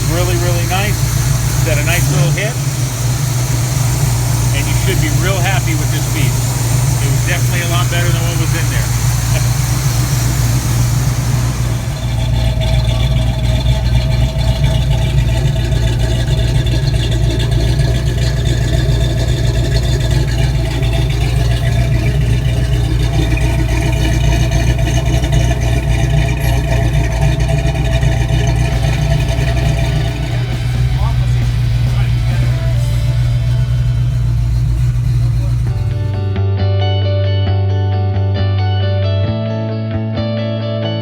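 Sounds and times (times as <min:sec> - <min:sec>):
car engine idling: 0:00.0 - 0:36.5.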